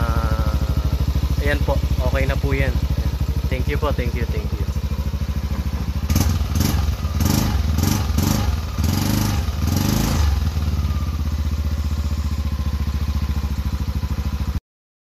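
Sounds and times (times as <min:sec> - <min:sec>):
scooter engine revving and idling: 0:00.0 - 0:14.6.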